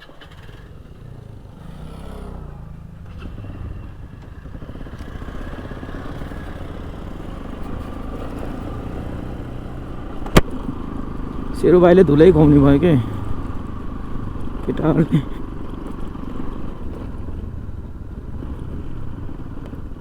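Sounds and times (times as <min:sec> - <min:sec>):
motorcycle engine running: 0:00.0 - 0:20.0
rattling over rough ground: 0:00.0 - 0:20.0.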